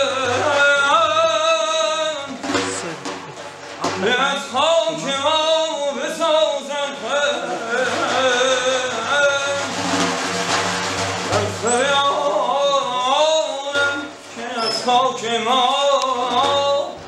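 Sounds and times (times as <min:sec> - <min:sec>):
man singing: 0:00.0 - 0:02.9, 0:03.8 - 0:10.0, 0:11.3 - 0:17.0
frame drum: 0:00.0 - 0:14.4.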